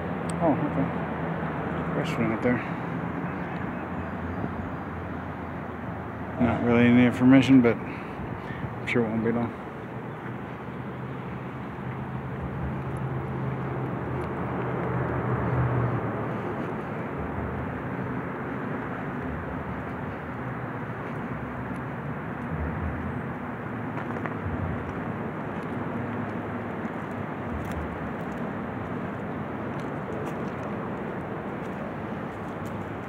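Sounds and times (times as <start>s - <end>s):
passing road traffic: 0.0s - 33.0s
vehicle engine hum: 0.0s - 33.0s.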